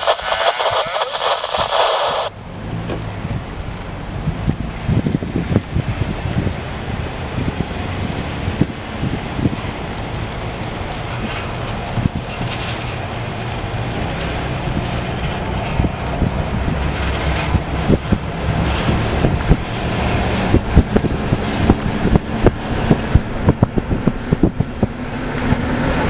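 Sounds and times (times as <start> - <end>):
locomotive engine drone: 0.0 - 26.0
wind buffeting microphone: 0.0 - 26.0.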